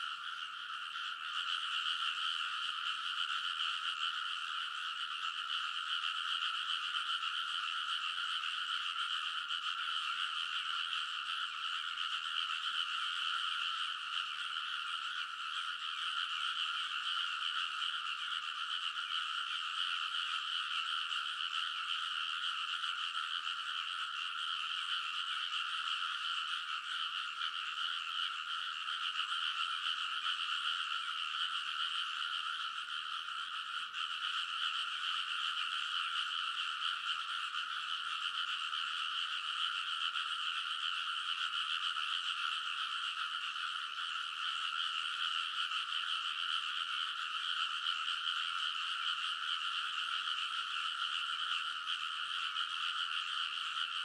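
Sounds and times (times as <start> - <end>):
chorus of frogs croaking: 0.0 - 54.0.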